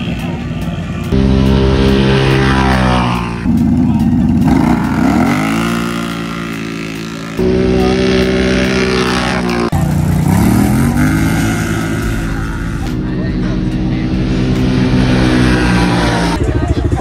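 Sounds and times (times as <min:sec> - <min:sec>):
atv engines revving: 0:00.0 - 0:17.0.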